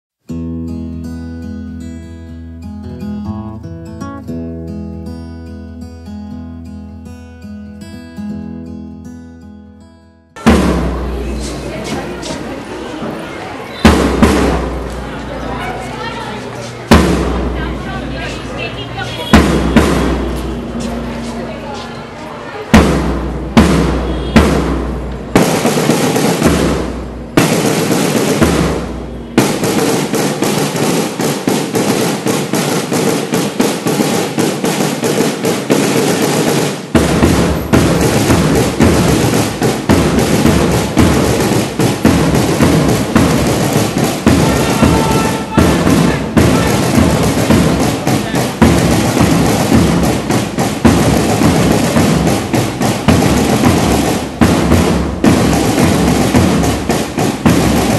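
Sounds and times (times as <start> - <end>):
marching drums beating: 10.4 - 57.9.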